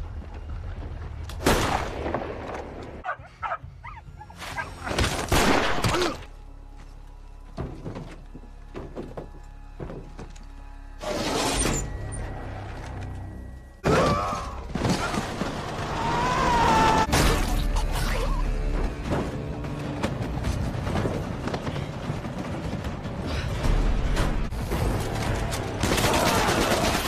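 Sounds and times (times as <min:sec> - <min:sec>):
low music drone: 0:00.0 - 0:27.0.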